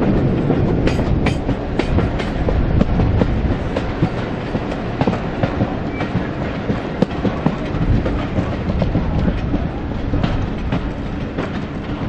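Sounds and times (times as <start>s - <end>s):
train coaches rumbling: 0.0s - 12.0s
wheels clicking over rail joints: 0.0s - 12.0s.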